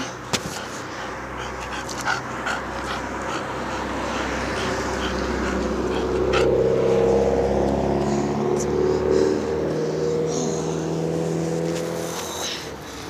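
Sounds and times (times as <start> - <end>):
dog panting and snuffling: 0.0 - 13.0.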